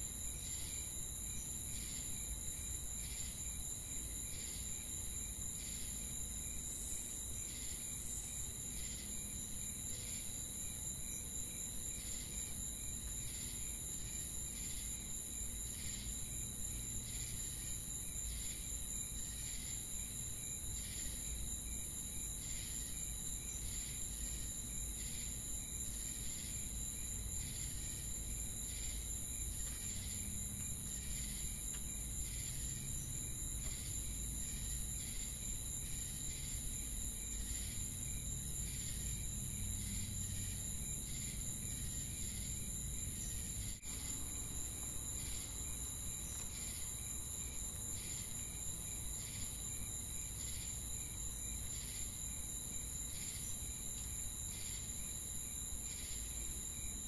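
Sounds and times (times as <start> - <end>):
crickets chirping: 0.0 - 57.0
high-pitched insect trill: 0.0 - 57.0.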